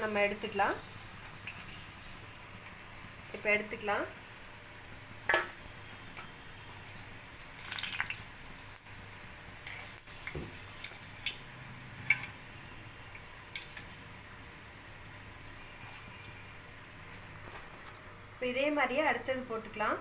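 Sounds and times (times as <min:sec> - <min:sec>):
faint oil sizzle: 0:00.0 - 0:20.0.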